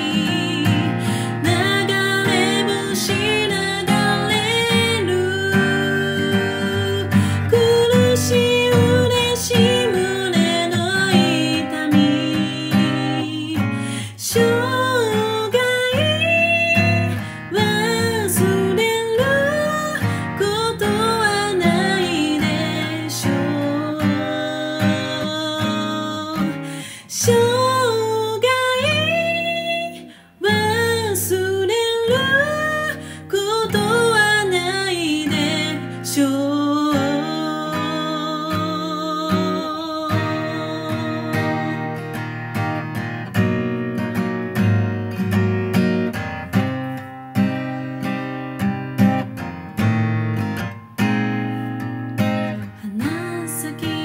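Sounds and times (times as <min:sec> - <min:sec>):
person singing pop ballad: 0:00.0 - 0:42.1, 0:52.5 - 0:54.0
strummed acoustic guitar: 0:00.0 - 0:54.0.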